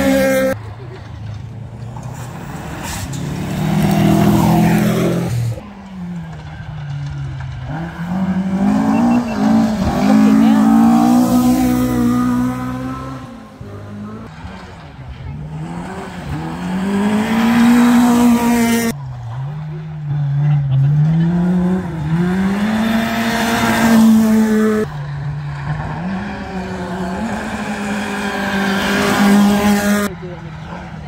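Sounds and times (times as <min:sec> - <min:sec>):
rally car engines revving past: 0:00.0 - 0:31.0.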